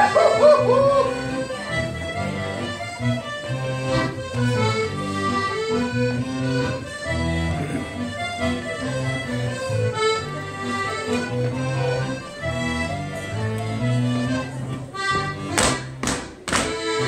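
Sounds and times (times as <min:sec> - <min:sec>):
accordion folk dance music: 0:00.0 - 0:17.0.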